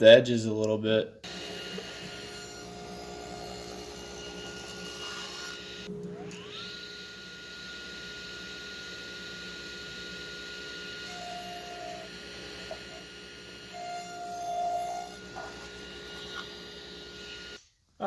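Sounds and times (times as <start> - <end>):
power tool motor whine: 1.2 - 17.6.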